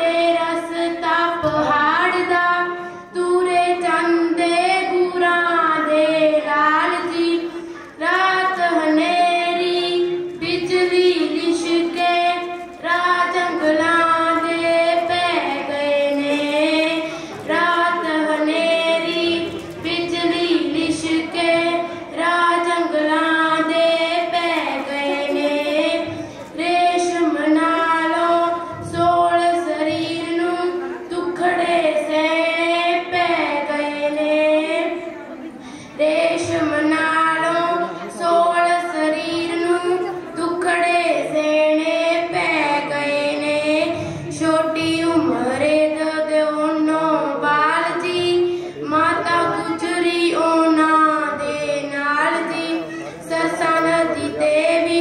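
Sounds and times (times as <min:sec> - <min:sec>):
girl singing into a microphone: 0:00.0 - 0:55.0.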